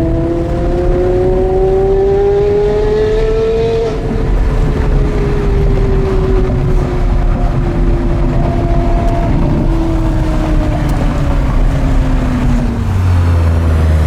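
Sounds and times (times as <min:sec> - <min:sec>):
sports car engine: 0:00.0 - 0:14.0.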